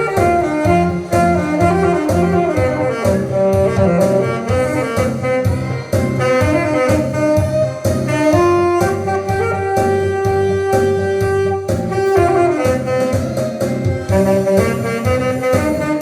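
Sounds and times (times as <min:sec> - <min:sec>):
accompaniment with steady beat: 0:00.0 - 0:16.0
alto saxophone melody: 0:00.0 - 0:16.0.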